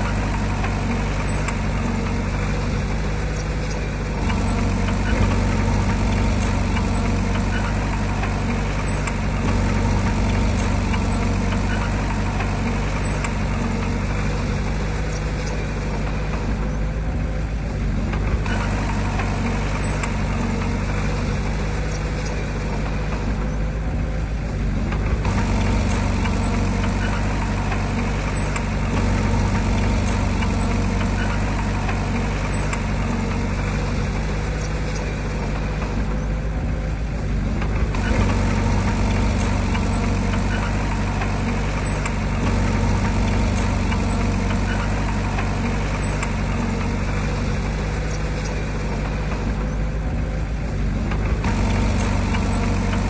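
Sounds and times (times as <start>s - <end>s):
heavy diesel engine droning: 0.0s - 53.0s.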